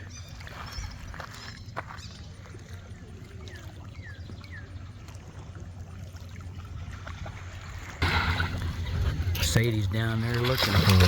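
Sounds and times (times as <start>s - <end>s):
water lapping: 0.0s - 11.0s.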